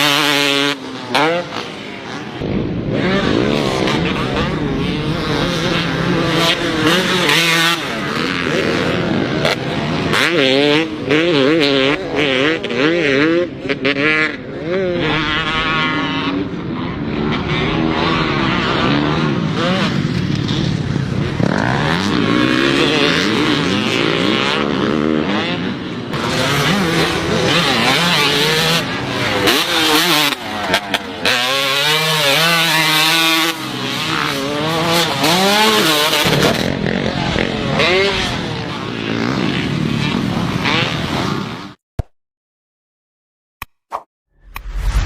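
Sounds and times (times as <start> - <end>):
motocross bike engine revving: 0.0 - 41.8.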